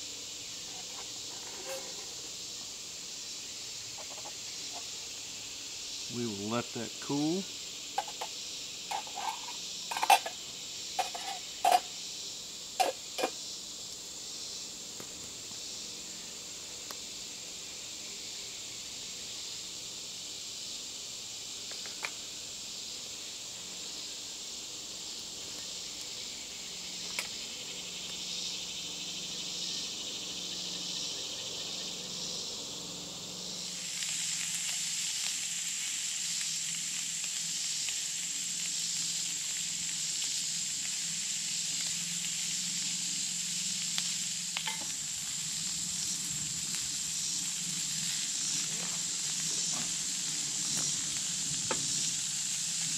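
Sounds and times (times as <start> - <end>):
insects buzzing: 0.0 - 52.9
pulsing insect chirp: 0.0 - 52.9.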